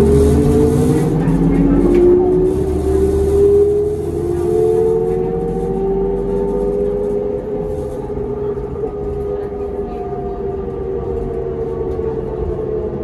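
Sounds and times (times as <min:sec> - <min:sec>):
bus transmission whine: 0:00.0 - 0:13.0
low engine rumble: 0:00.0 - 0:13.0.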